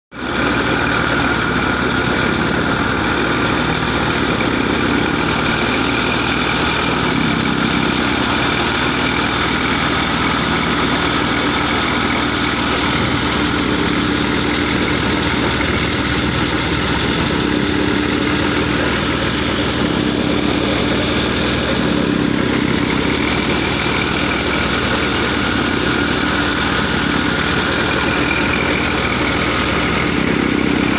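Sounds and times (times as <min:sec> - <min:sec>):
tractor diesel engine running: 0:00.1 - 0:30.9
thresher drum and fans whirring: 0:00.2 - 0:30.9.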